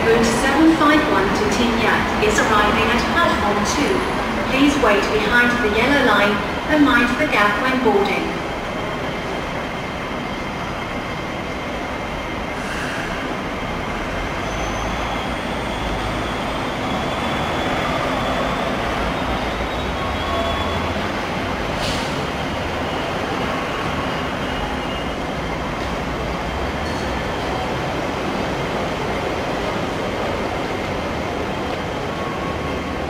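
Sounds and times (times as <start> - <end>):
light rail car running: 0.0 - 33.0.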